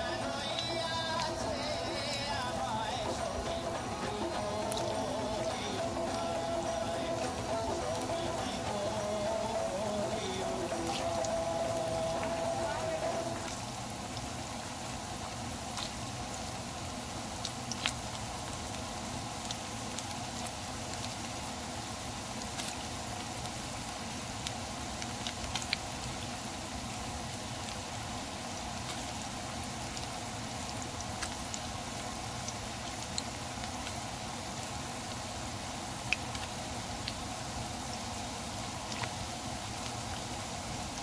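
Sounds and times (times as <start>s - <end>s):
deep-frying sizzle with pops: 0.0s - 41.0s.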